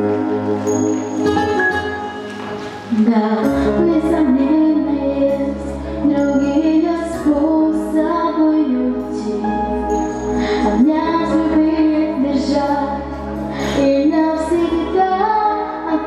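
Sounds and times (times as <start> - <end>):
woman singing into a microphone: 2.9 - 16.0.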